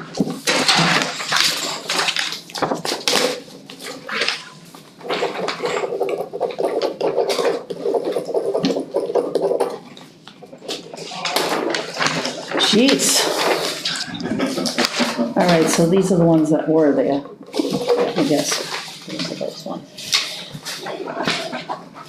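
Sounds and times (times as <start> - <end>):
paper rustling and shuffling: 0.0 - 16.4, 17.5 - 22.0.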